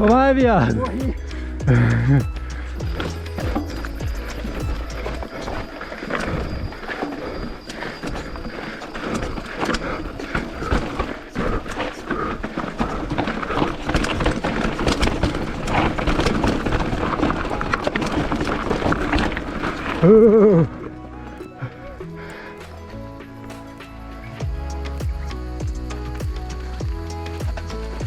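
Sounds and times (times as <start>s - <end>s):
bike frame and chain rattling: 0.0s - 28.0s
bike tyres crunching over stones: 0.0s - 28.0s.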